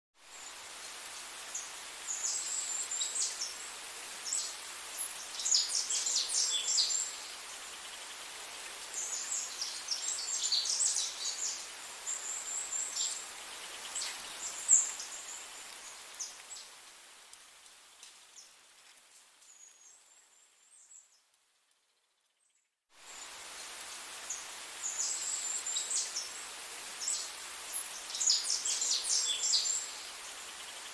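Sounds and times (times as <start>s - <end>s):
background hiss: 0.2s - 30.9s
songbirds chirping: 0.4s - 16.8s, 19.4s - 30.9s.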